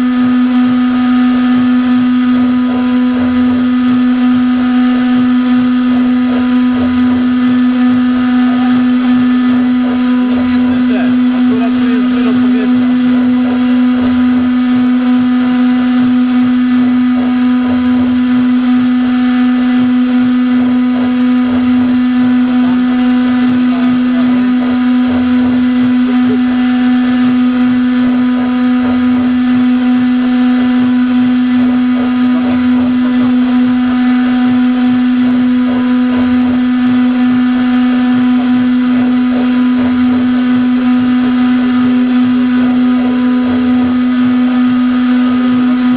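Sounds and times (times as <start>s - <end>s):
router spindle whine: 0.0s - 45.9s.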